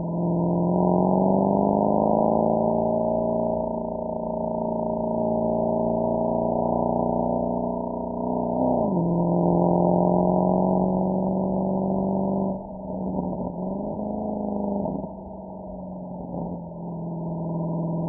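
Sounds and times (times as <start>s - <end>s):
car exhaust note: 0.0s - 18.0s.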